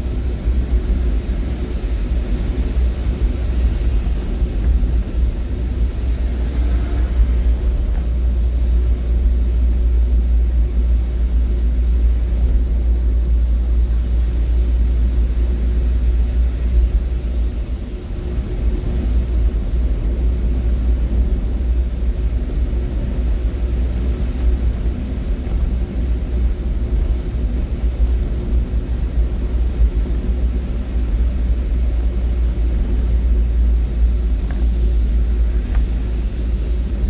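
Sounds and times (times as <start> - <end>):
moving vehicle rumble: 0.0 - 37.0.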